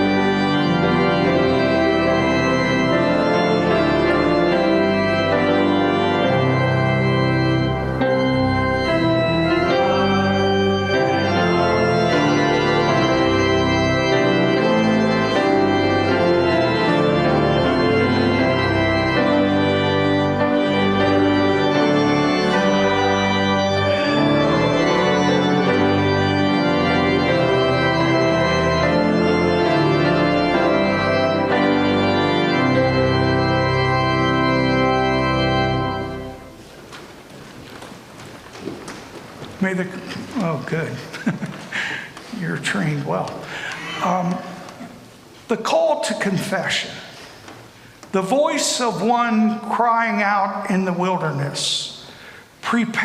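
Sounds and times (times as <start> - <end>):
church organ chords: 0.0 - 37.3, 39.5 - 53.0.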